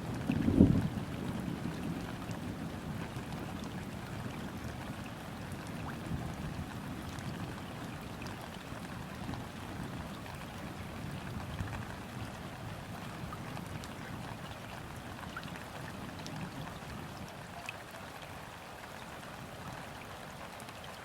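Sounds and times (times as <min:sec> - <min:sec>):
rain falling on river: 0:00.0 - 0:21.0.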